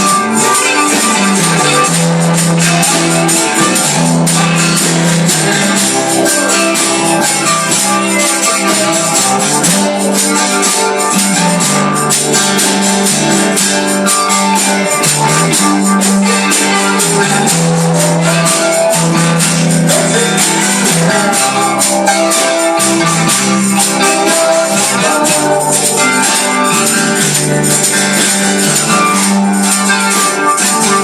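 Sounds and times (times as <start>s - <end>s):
gospel band playing: 0.0s - 31.0s
guitar: 0.0s - 31.0s
tambourine shaking a beat: 0.0s - 31.0s.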